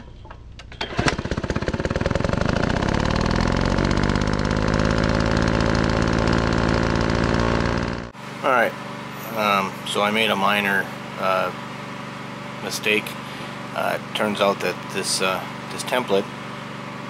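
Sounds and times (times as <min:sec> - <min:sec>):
engine starting and running: 0:00.0 - 0:17.0.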